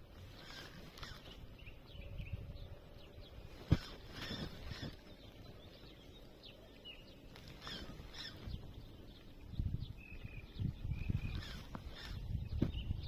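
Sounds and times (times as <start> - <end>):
birds chirping: 0.0 - 13.0
wind buffeting microphone: 0.0 - 13.0.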